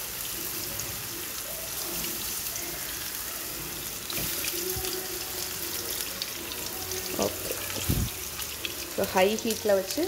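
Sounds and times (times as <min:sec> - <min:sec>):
meatballs sizzling in oil: 0:00.0 - 0:10.0.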